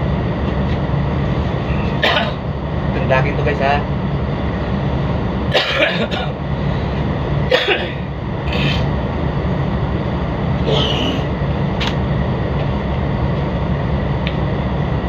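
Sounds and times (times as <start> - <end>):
boat diesel engines droning: 0.0 - 15.0.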